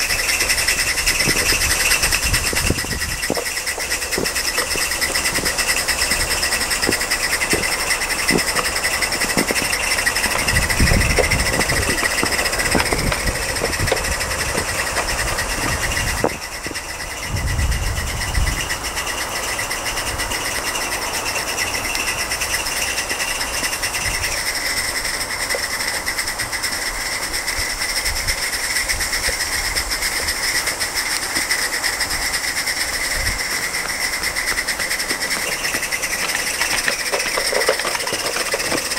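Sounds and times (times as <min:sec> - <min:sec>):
low rumbles: 0:00.0 - 0:38.9
steam hissing with whistling tones: 0:00.0 - 0:38.9.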